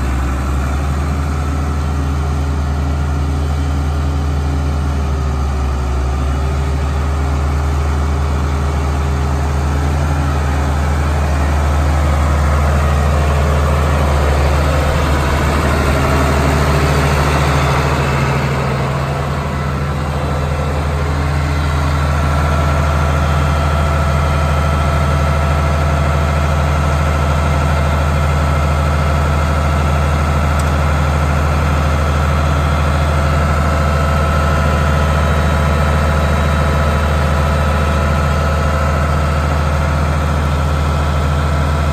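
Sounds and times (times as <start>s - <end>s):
diesel tractor engine idling: 0.0s - 41.9s.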